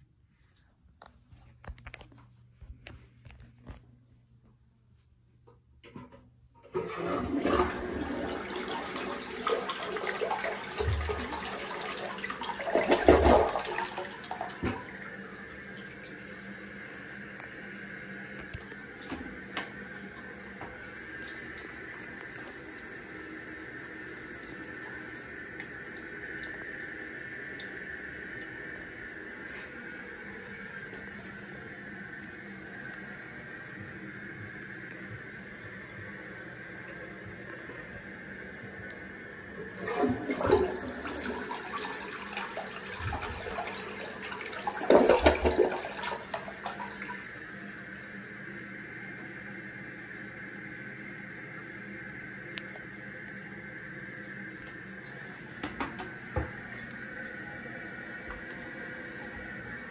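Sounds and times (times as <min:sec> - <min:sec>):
toilet tank refilling: 0:06.6 - 0:59.9.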